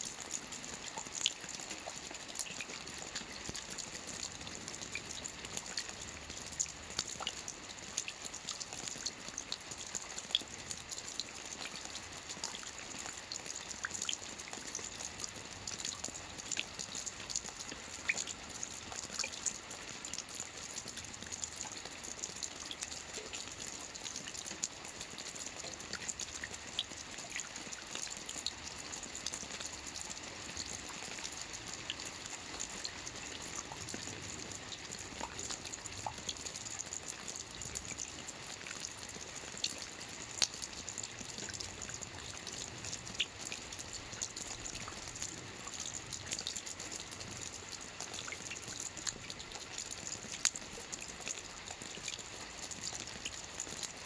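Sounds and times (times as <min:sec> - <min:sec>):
soft rain on a roof: 0:00.0 - 0:54.0.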